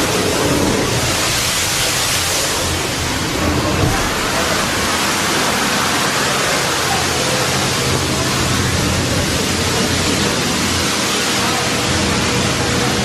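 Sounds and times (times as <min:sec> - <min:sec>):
steady rushing noise: 0:00.0 - 0:13.0
faint voices: 0:01.9 - 0:13.0.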